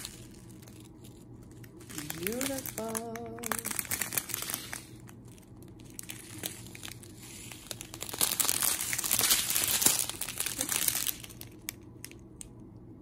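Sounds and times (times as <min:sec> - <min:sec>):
plastic bags crinkling: 0:00.0 - 0:12.2.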